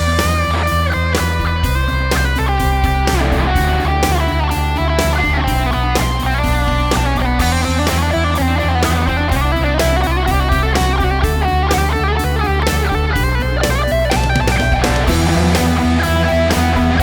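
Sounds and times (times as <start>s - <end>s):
distorted electric guitar lead: 0.0s - 17.0s
rock backing track: 0.0s - 17.0s.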